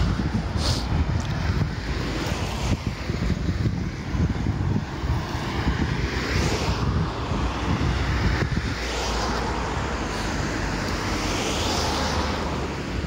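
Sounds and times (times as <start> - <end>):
road traffic tyre noise: 0.0 - 13.0
wind rumbling on microphone: 0.0 - 13.0.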